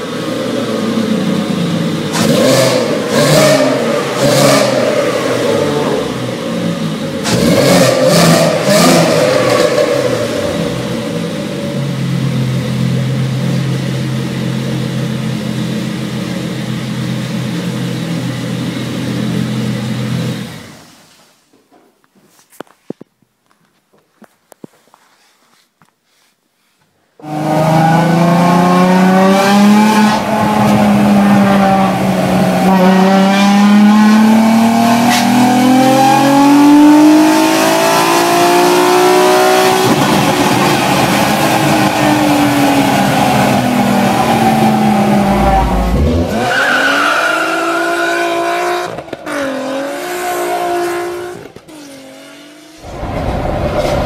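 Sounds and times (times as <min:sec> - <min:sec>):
car engine accelerating: 0:00.1 - 0:20.8, 0:27.2 - 0:54.0.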